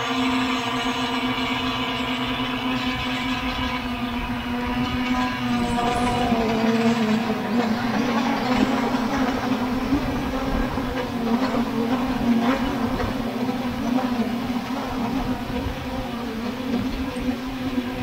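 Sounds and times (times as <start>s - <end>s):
drone motors humming: 0.0s - 18.0s.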